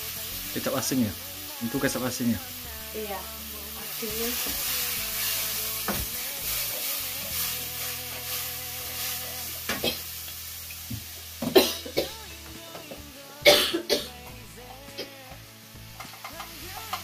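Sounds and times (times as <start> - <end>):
noodles sizzling in a pan: 0.0 - 17.0.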